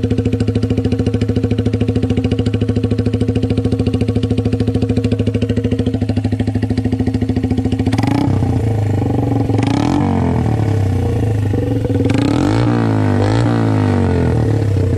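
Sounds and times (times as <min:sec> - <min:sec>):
motorcycle engine idling and revving: 0:00.0 - 0:14.9.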